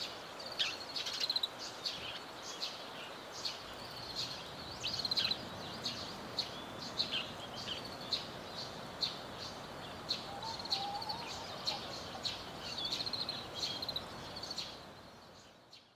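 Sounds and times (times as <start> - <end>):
small birds chirping: 0.0 - 15.9
steady outdoor hiss: 0.0 - 15.9.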